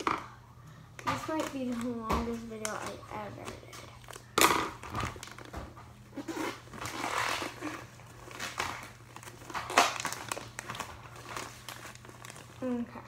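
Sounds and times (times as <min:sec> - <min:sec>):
plastic packaging crinkling: 0:01.0 - 0:13.0
sharp plastic crackle: 0:01.0 - 0:13.0.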